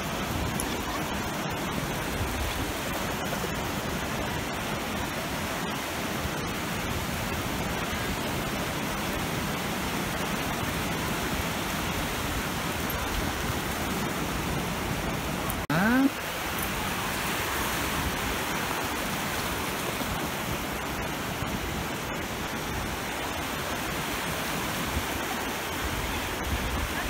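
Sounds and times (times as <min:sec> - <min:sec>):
ocean surf breaking on beach: 0:00.0 - 0:27.0.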